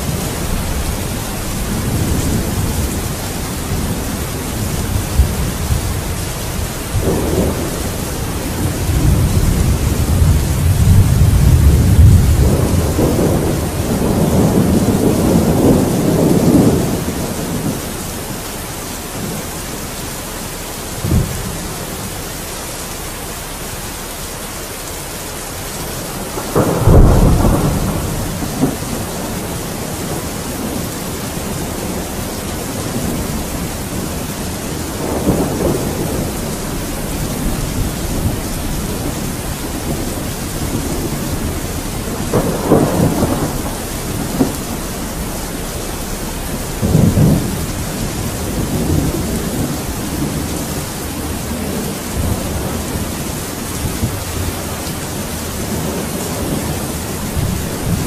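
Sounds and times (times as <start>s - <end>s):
rolling thunder: 0.0s - 24.0s, 25.5s - 58.0s
steady rain: 0.0s - 58.0s.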